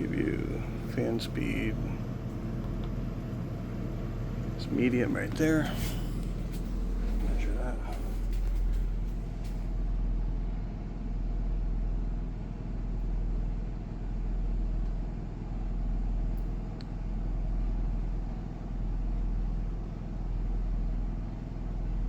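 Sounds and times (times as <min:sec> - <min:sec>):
air conditioner humming: 0:00.0 - 0:18.9.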